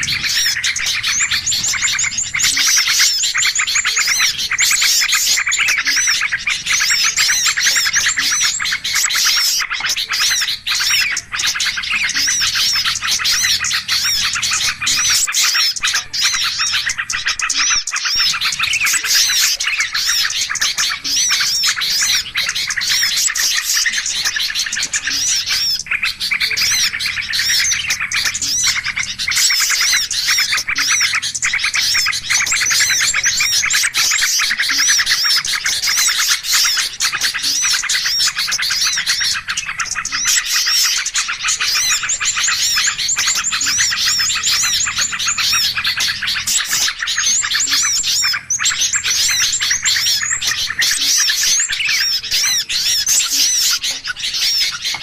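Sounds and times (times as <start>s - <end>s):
songbirds chirping and calling: 0.0s - 55.0s.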